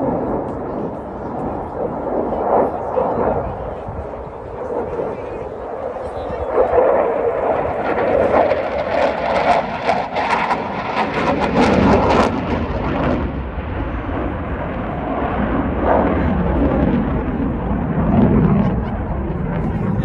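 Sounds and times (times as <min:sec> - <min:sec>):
jet engines roaring with crackle: 0:00.0 - 0:20.0.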